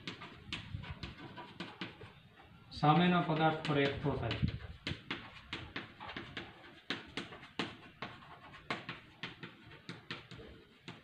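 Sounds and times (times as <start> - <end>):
chalk tapping on chalkboard: 0.0 - 2.2, 2.8 - 11.0.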